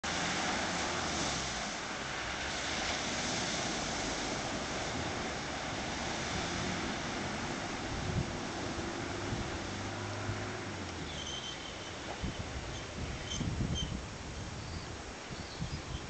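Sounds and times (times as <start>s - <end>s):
water splashing around wheels: 0.0s - 16.0s.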